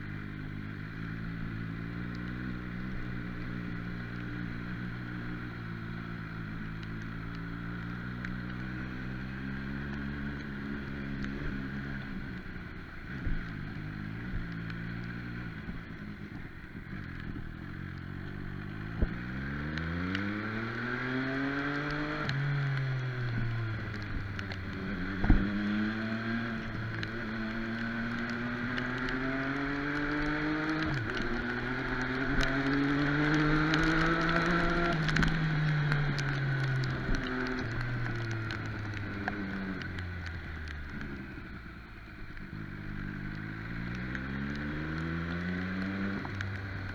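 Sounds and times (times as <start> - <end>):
motorcycle engine revving: 0.0 - 46.9
wind and road noise: 0.0 - 46.9.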